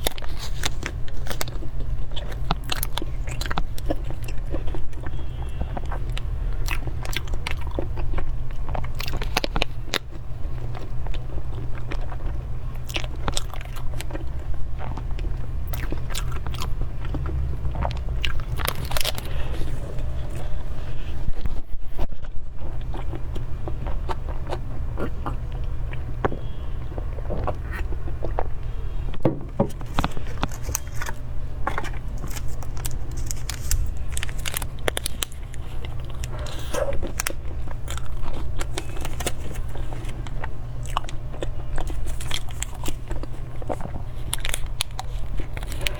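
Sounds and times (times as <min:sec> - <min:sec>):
chewing mouth noises: 0:00.0 - 0:45.9
steady low hum: 0:00.0 - 0:45.9.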